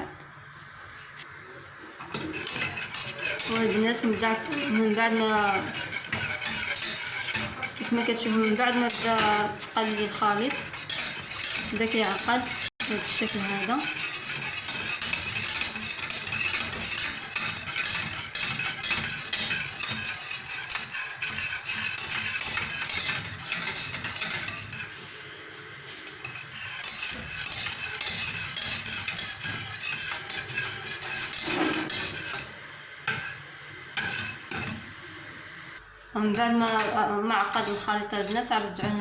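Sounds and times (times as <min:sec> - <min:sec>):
utensil scraping a saucepan: 0:02.0 - 0:35.2, 0:36.2 - 0:39.0.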